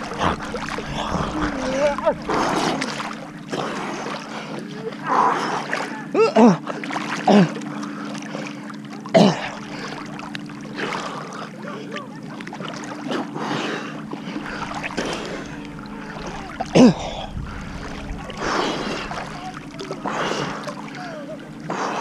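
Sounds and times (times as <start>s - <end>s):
steady low hum: 0.0s - 22.0s
water sloshing against camera: 0.0s - 22.0s.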